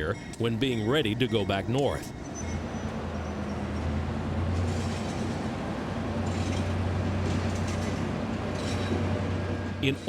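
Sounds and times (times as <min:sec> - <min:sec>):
diesel locomotive engines droning: 0:00.0 - 0:10.0.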